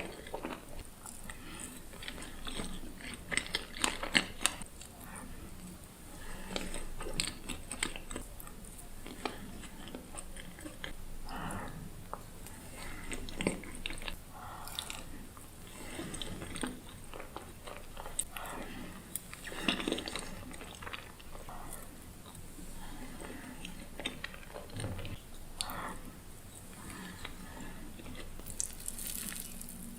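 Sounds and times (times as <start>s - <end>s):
close chewing with wet mouth clicks: 0.0s - 29.9s.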